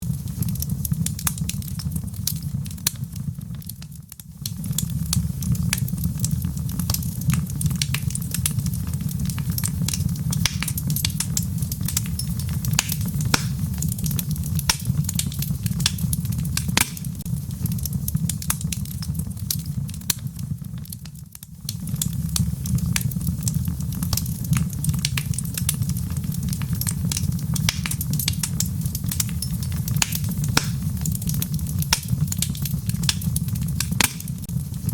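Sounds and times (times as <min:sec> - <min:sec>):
gentle rain: 0:00.0 - 0:34.9
wood fire crackling and popping: 0:00.0 - 0:34.9.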